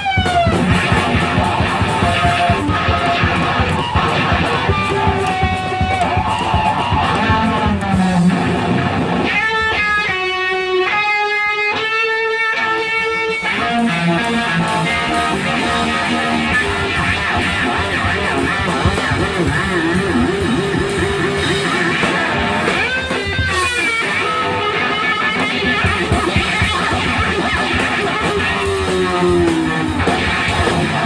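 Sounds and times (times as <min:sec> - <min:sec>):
electric guitar held notes: 0:00.0 - 0:31.0
live rock band: 0:00.0 - 0:31.0.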